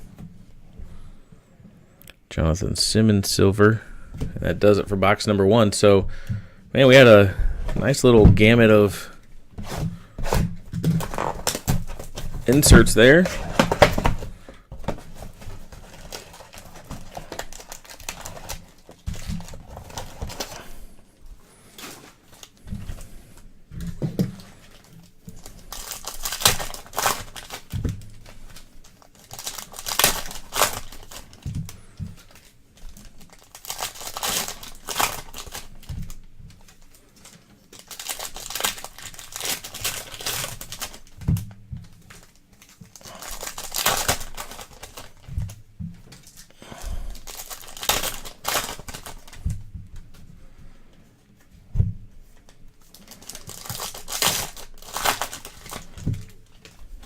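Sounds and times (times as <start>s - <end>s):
plastic wrapping crinkling and tearing: 7.8s - 49.7s, 52.4s - 57.0s.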